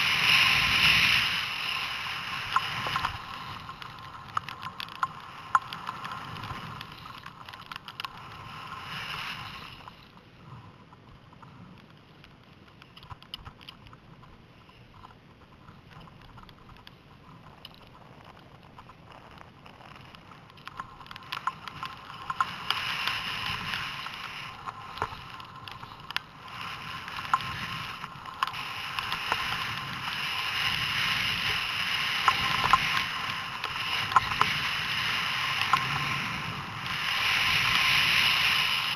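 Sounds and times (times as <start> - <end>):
skis running over snow: 0.0 - 38.9
wind on camera: 0.0 - 38.9
small clicks and rattles: 0.2 - 38.9.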